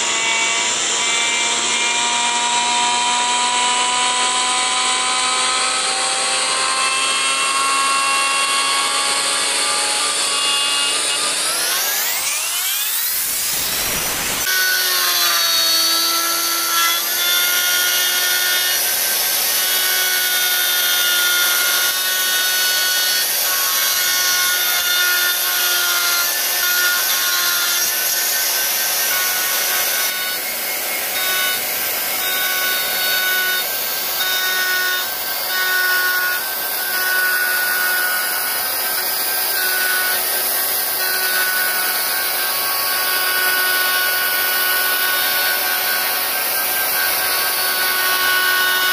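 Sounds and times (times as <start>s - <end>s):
router bit cutting wood: 0.0s - 48.9s
router high whine: 0.0s - 48.9s.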